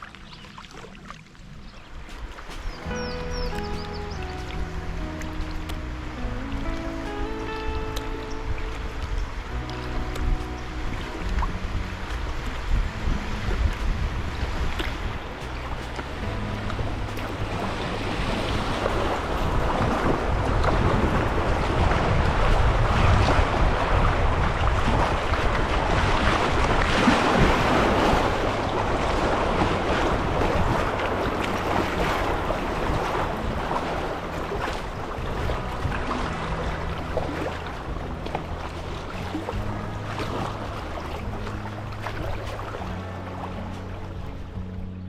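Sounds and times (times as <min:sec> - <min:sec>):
river water rushing: 0:00.0 - 0:45.0
wind buffeting microphone: 0:00.0 - 0:45.0.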